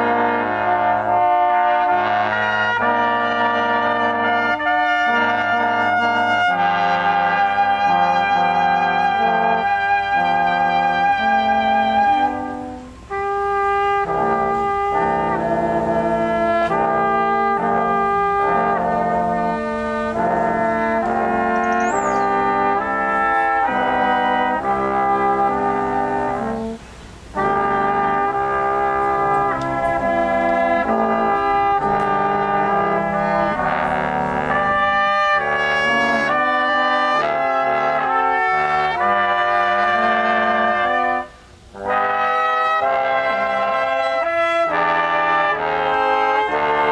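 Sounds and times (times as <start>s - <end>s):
brass quintet playing: 0.0s - 46.9s.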